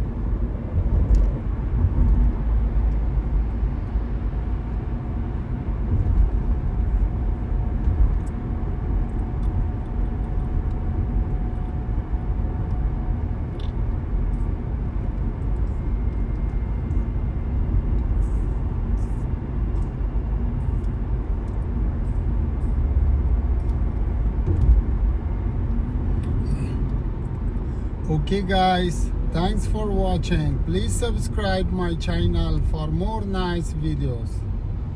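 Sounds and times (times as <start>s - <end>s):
car engine hum: 0.0s - 34.9s
road and tyre rumble: 0.0s - 34.9s.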